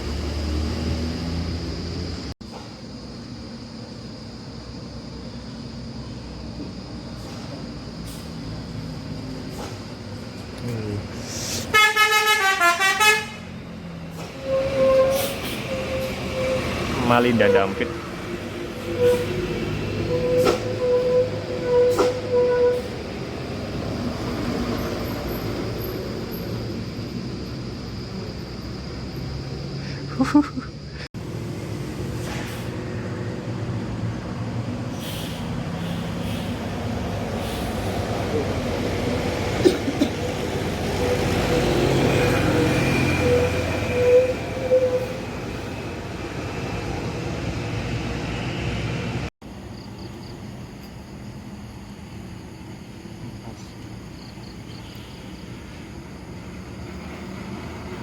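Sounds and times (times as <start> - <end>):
bus passing and pulling away: 0.0 - 58.0
road traffic hum: 0.0 - 58.0.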